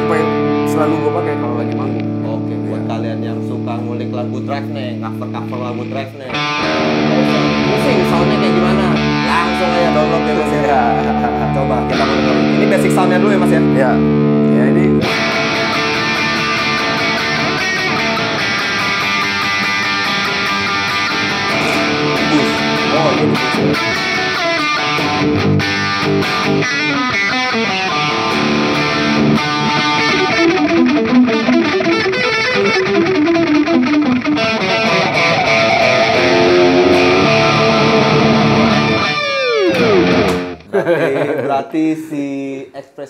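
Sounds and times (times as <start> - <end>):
overdriven electric guitar with delay: 0.0 - 40.7.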